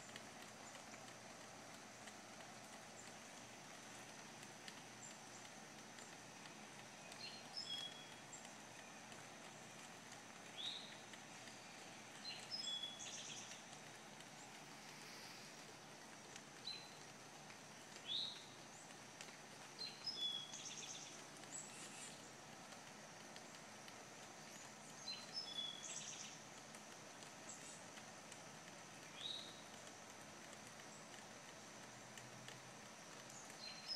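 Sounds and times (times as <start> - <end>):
songbirds chirping and whistling: 0.0 - 28.1, 28.8 - 29.9, 30.8 - 33.9
faint high-pitched hum: 0.0 - 33.9.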